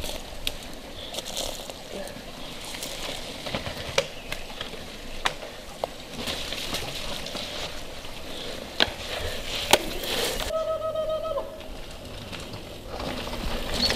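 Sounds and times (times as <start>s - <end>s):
bike rattling over rocks: 0.0s - 10.5s, 11.4s - 13.9s
bike tyres on dirt and stones: 0.0s - 13.9s.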